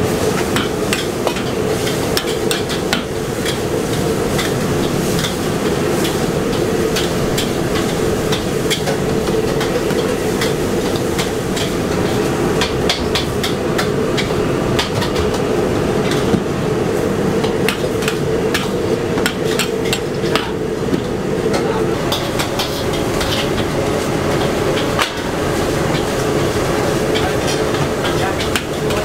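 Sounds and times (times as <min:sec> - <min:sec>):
gas burner rushing: 0:00.0 - 0:29.0.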